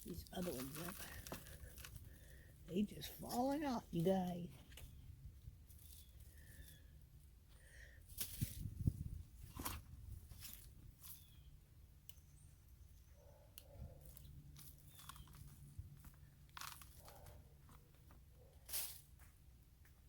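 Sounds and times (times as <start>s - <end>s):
hands rustling through soil: 0.0s - 11.5s, 13.9s - 19.4s.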